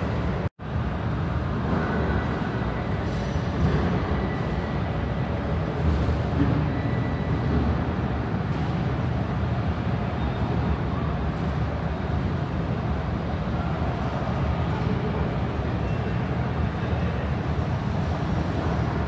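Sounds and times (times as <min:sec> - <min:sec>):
low rumble of aircraft and vehicles: 0:00.0 - 0:19.0.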